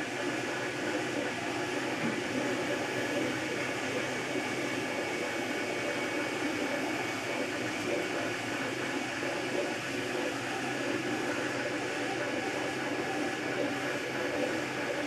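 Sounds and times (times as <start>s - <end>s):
cooling fan noise: 0.0s - 15.0s.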